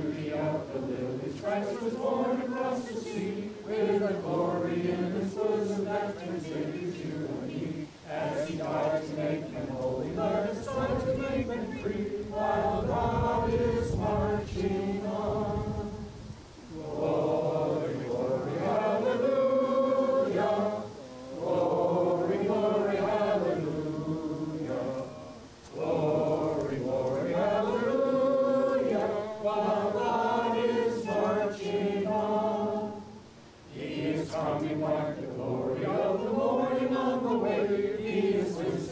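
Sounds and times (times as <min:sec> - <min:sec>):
crowd singing: 0:00.0 - 0:38.9.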